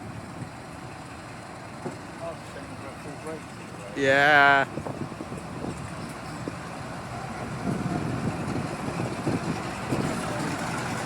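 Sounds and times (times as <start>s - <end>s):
diesel train engine rumbling: 0.0s - 11.0s.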